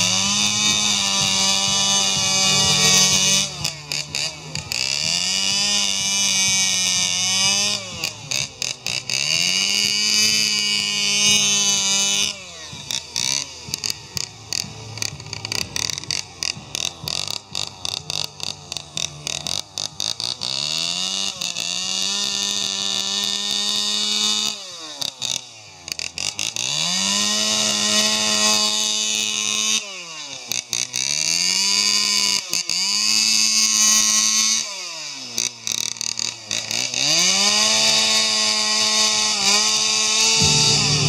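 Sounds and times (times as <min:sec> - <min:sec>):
chainsaw revving and cutting wood: 0:00.0 - 0:41.0.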